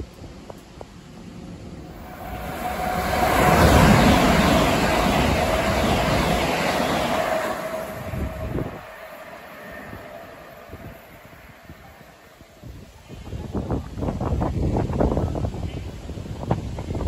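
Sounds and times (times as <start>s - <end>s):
train wheels on rail: 0.0s - 15.4s
electric train hum: 0.0s - 17.0s.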